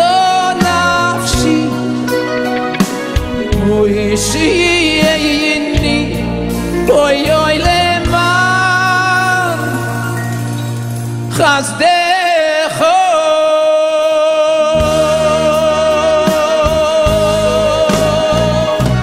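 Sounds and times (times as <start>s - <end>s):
man singing: 0.0s - 10.5s, 11.3s - 19.0s
bass: 0.0s - 19.0s
live band playing: 0.0s - 19.0s.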